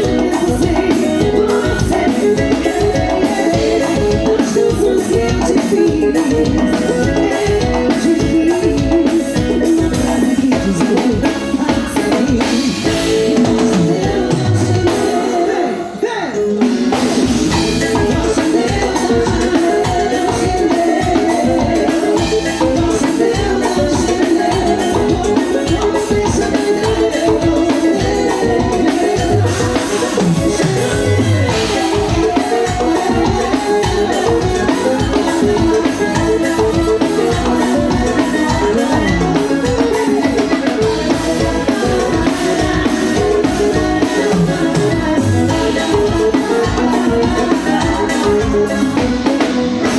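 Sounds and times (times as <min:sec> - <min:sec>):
band melody lines: 0:00.0 - 0:49.9
drum kit and percussion: 0:00.0 - 0:49.9.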